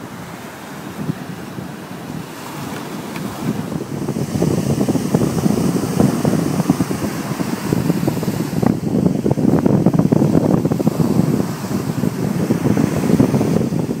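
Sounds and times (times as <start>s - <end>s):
surf breaking on shore: 0.0s - 14.0s
wind buffeting microphone: 0.0s - 14.0s.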